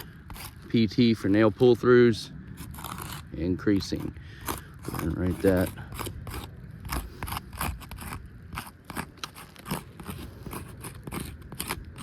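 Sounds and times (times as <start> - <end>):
chalk scraping on shingles: 0.0 - 1.5, 2.5 - 12.0.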